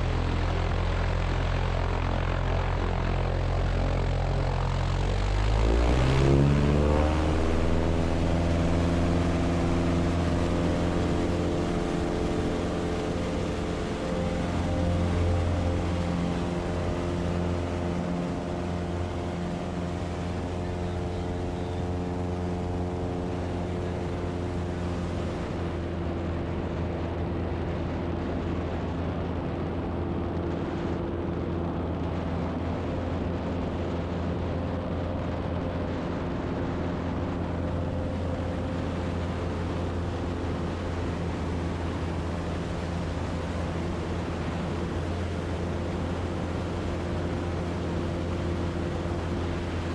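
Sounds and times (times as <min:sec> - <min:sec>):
light aircraft propeller engine: 0:00.0 - 0:49.9.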